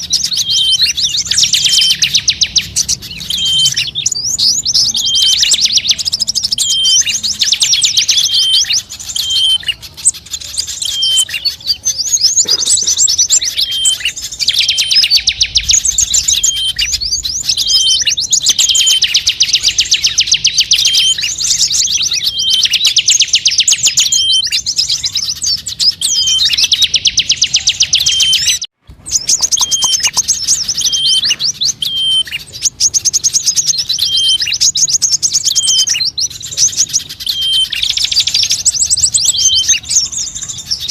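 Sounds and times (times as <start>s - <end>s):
high-pitched bird trills: 0.0s - 40.9s
short bird chirps: 0.0s - 40.9s.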